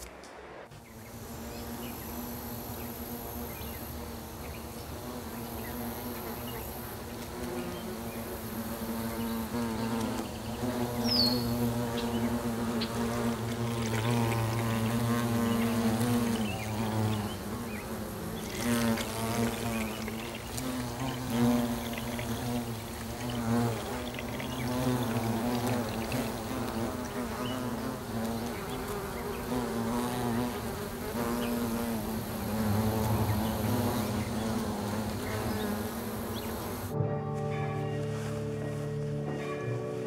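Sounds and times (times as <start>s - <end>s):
honeybees buzzing: 0.7s - 37.1s.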